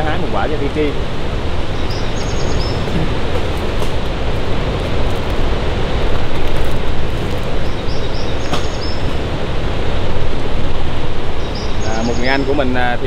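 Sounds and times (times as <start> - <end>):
loud rushing noise with low rumble: 0.0 - 13.0.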